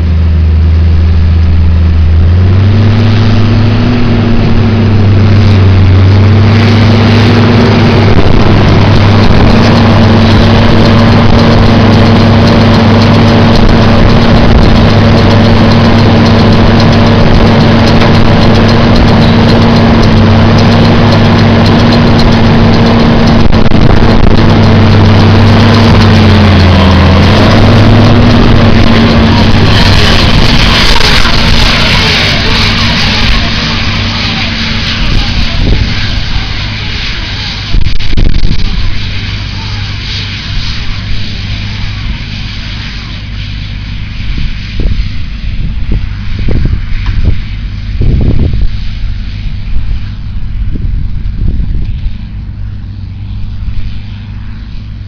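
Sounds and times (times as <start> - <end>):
tractor engine running: 0.0 - 55.0
wind on microphone: 2.3 - 43.4, 44.0 - 55.0.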